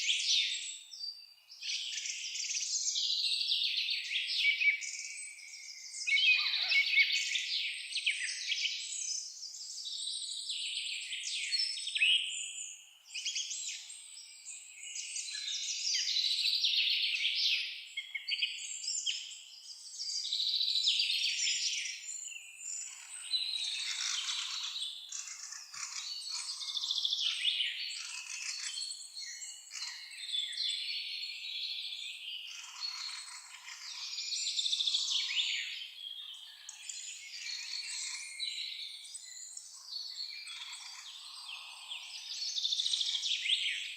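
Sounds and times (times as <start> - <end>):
songbirds chorus: 0.0 - 43.9.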